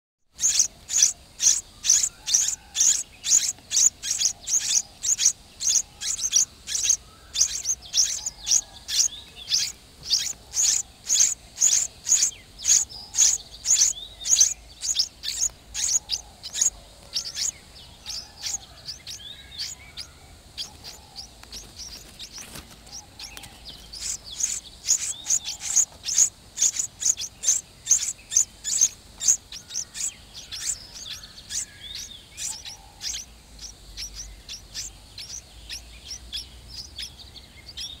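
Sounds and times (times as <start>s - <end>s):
nestlings begging chirps: 0.3s - 38.0s.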